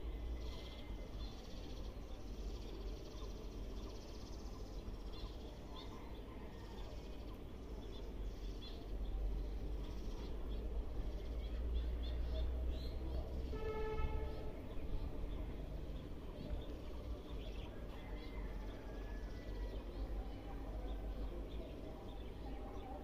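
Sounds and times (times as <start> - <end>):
faint bird chirps: 0.0 - 23.0.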